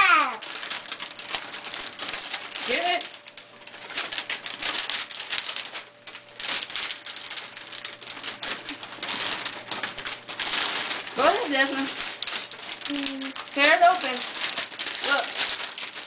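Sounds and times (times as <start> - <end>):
wrapping paper tearing and crinkling: 0.0 - 16.0.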